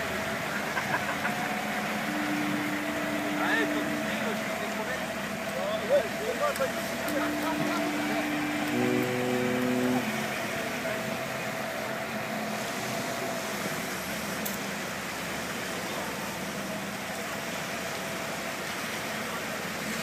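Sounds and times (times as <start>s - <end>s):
small waves washing on beach: 0.0s - 20.0s
faint steady hum: 0.2s - 18.0s.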